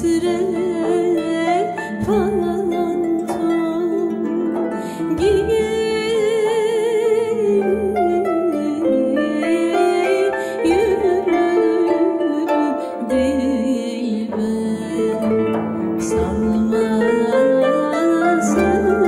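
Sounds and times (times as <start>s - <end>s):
harps plucking: 0.0s - 19.0s
woman singing with vibrato: 0.0s - 19.0s.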